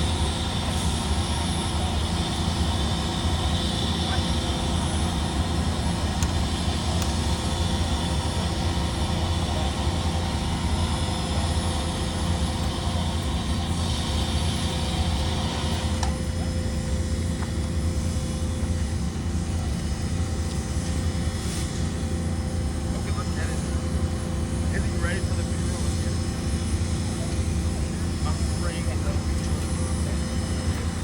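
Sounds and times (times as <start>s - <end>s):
low engine rumble: 0.0s - 31.0s.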